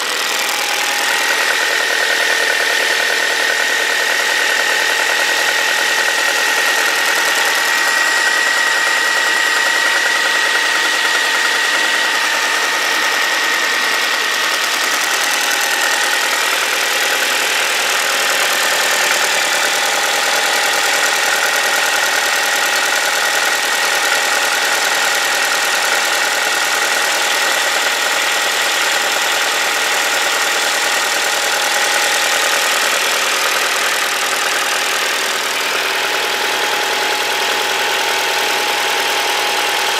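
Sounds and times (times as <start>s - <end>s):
car engine idling: 0.0s - 39.9s
fuel injectors chattering: 0.0s - 39.9s
light engine ticking: 0.0s - 39.9s.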